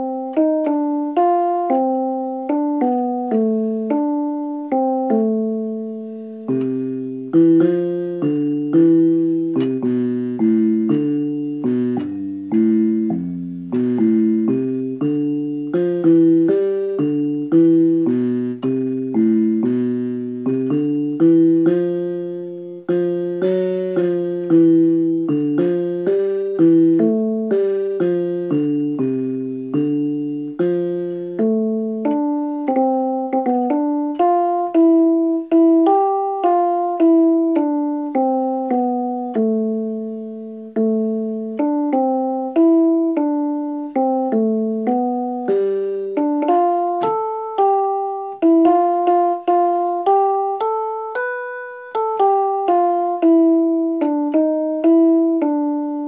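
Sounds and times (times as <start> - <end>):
piano-like keyboard chords: 0.0 - 56.0.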